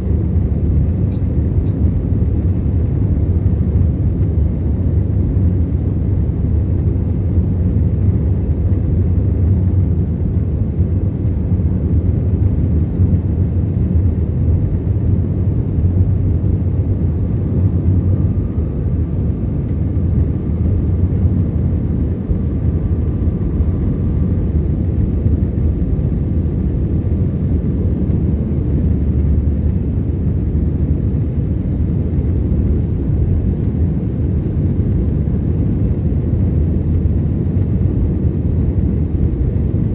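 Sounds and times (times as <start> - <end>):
airplane engine drone in cabin: 0.0 - 39.9.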